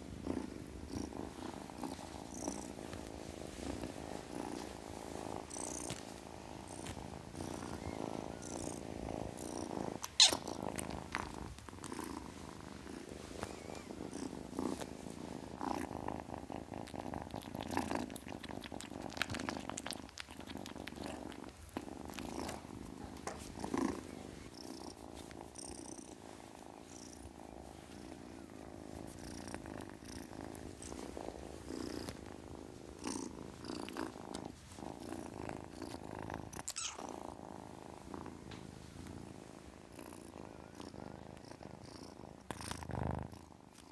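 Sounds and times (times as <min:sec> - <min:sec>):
kitten purring: 0:00.0 - 0:43.9.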